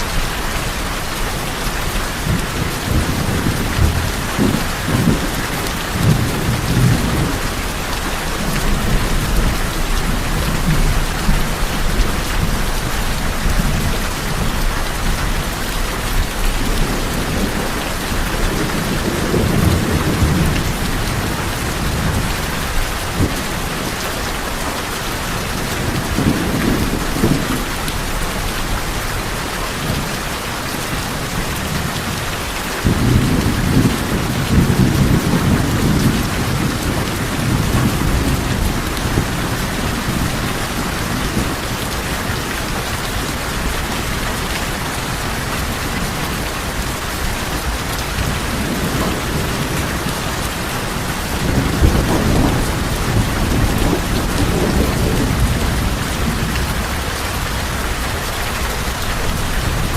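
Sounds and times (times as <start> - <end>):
heavy rain on tin roofs: 0.0 - 59.9
low rumbles of thunder: 2.1 - 24.0, 25.4 - 30.1, 30.9 - 59.9.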